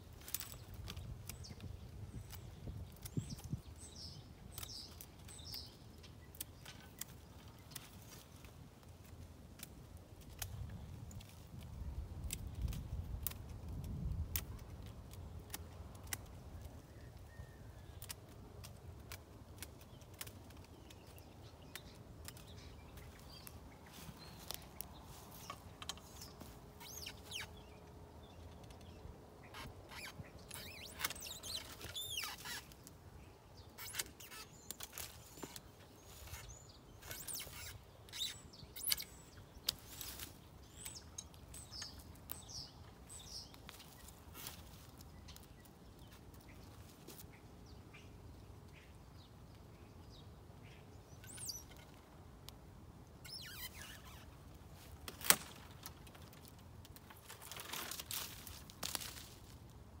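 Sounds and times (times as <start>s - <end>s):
small birds chirping: 0.0s - 60.0s
loppers snapping twigs: 0.1s - 16.8s, 17.8s - 33.0s, 33.7s - 47.3s, 53.3s - 59.7s.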